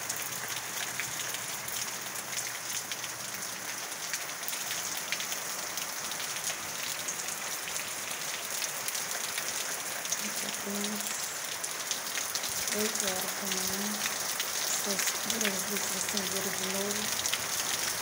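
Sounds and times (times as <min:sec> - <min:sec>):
raindrops clicking close by: 0:00.0 - 0:18.0
steady rain hiss: 0:00.0 - 0:18.0.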